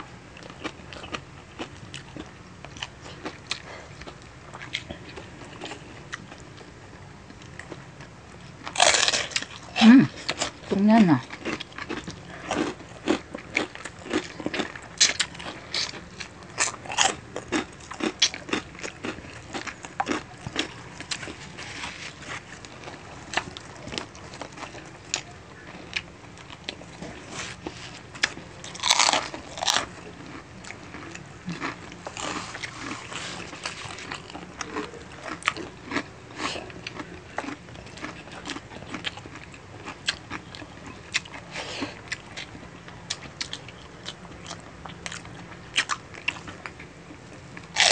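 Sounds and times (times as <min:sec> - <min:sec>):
crunchy food being chewed: 0:00.0 - 0:47.9.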